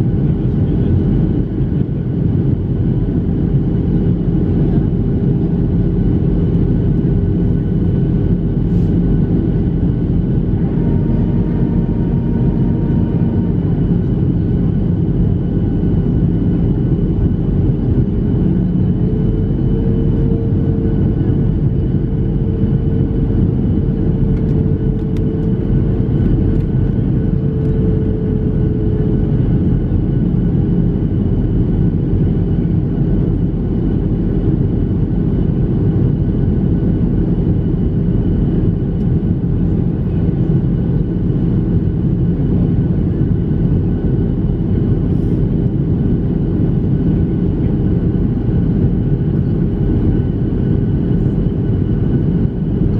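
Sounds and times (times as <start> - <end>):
airplane cabin airflow rush: 0.0 - 52.9
jet engine drone: 0.0 - 52.9.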